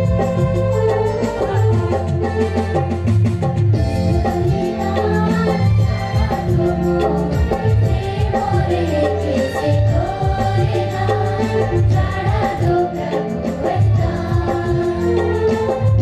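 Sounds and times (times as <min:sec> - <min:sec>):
choir singing a hymn: 0:00.0 - 0:02.8, 0:03.8 - 0:16.0
keyboard and drums backing: 0:00.0 - 0:16.0.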